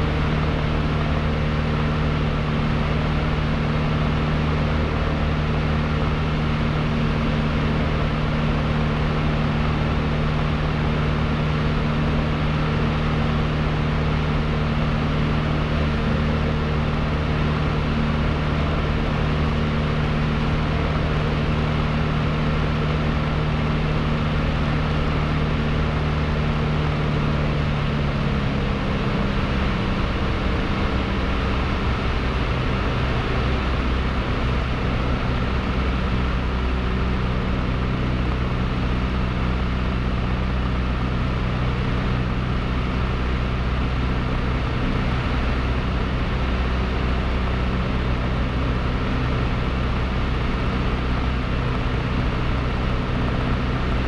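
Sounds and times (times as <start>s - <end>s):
propeller plane engine in cabin: 0.0s - 54.0s.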